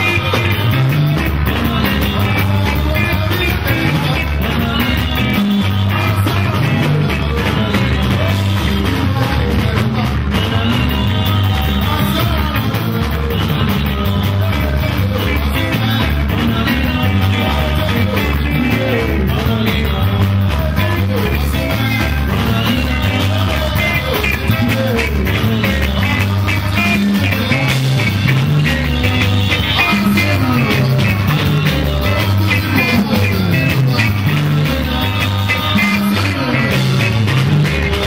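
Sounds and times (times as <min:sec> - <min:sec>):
bass line: 0:00.0 - 0:38.0
drum kit beat: 0:00.0 - 0:38.0
electric guitars: 0:00.0 - 0:38.0
men singing into microphones: 0:00.0 - 0:38.0.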